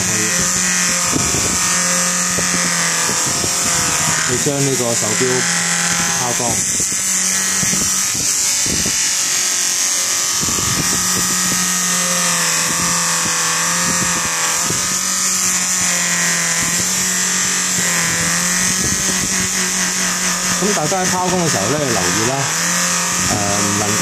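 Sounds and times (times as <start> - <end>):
metal against buffing wheel: 0.0 - 24.0
polishing machine motor humming: 0.0 - 24.0.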